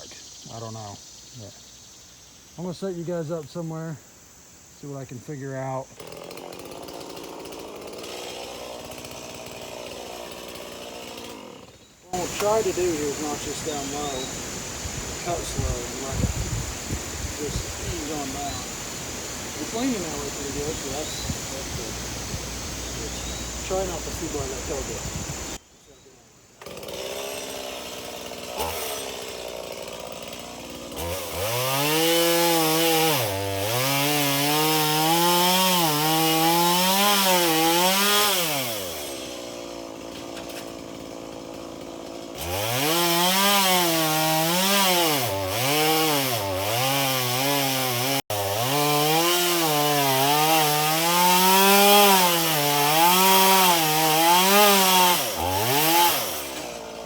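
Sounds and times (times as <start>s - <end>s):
chainsaw idling and cutting: 4.4s - 25.6s, 26.5s - 57.0s.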